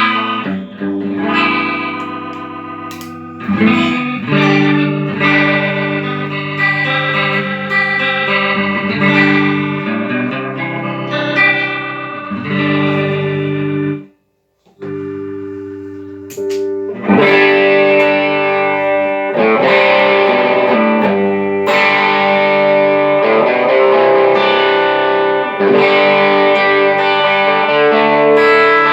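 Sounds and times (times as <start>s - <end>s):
distorted electric guitar chords: 0.0s - 14.1s, 14.8s - 28.9s.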